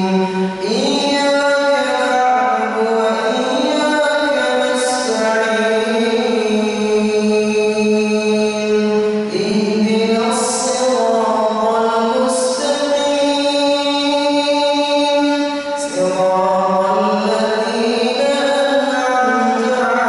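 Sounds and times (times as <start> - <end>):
man chanting into a microphone: 0.0 - 20.0.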